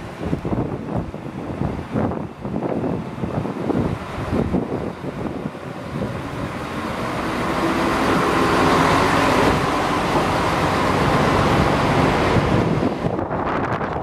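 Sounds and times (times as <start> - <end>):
diesel railcar engine under load: 0.0 - 14.0.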